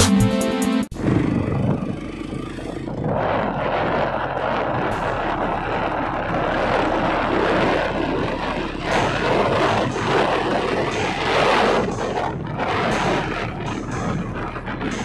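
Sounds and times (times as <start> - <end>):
loud steady rushing noise: 0.9 - 15.0.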